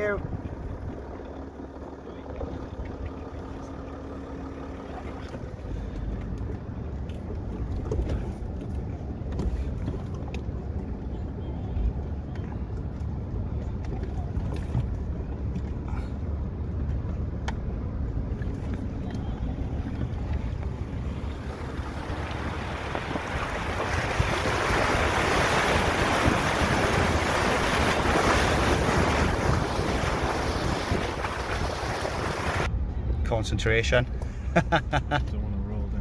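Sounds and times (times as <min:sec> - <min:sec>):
car engine rumble inside cabin: 0:00.0 - 0:36.0.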